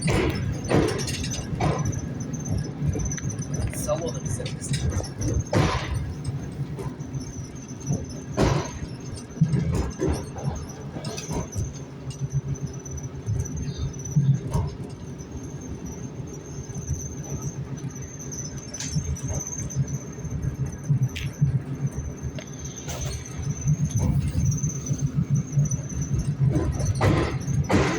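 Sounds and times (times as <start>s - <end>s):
train rumble: 0.0s - 27.9s.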